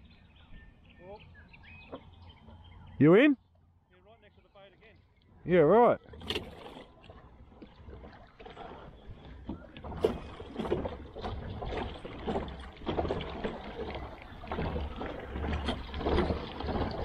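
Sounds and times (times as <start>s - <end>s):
water splashing around kayak: 0.0s - 17.0s.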